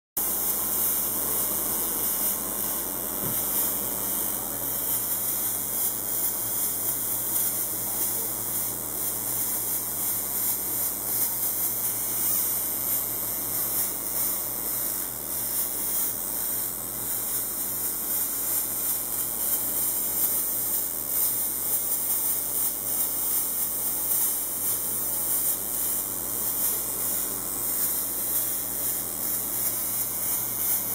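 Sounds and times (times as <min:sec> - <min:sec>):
welding hiss: 0:00.2 - 0:30.9.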